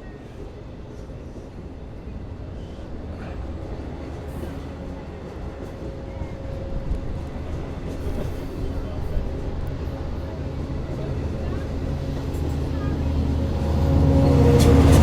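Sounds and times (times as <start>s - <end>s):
train engines and wheels rumbling: 0.0s - 15.0s.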